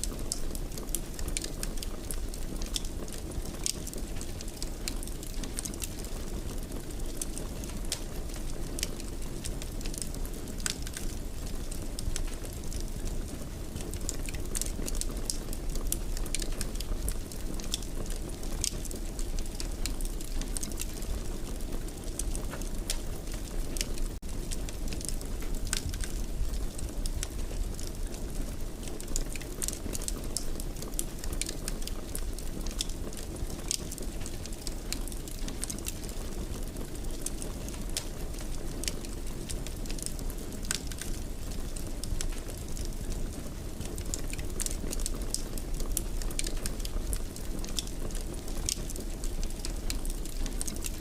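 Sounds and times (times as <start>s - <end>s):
fire crackles and pops: 0.0s - 51.0s
low rumble of flame: 0.0s - 51.0s.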